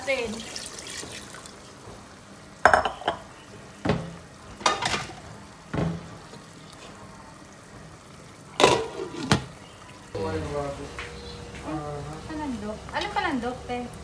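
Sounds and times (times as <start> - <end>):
stew sizzling: 0.0 - 14.0.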